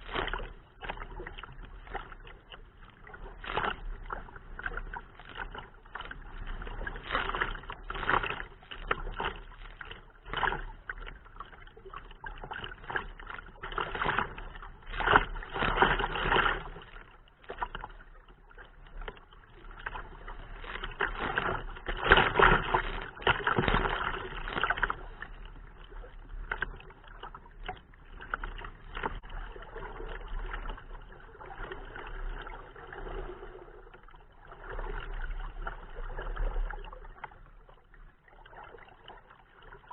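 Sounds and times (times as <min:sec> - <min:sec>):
water splashing against kayak hull: 0:00.0 - 0:39.9.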